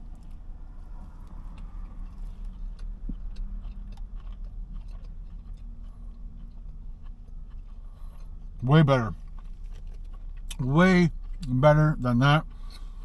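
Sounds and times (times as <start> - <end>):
person chewing: 0.0 - 11.5
low steady hum: 0.0 - 13.0.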